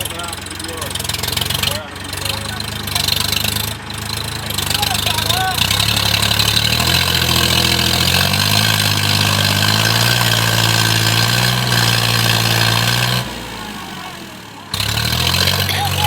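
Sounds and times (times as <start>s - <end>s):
tractor engine labouring: 0.0s - 16.0s.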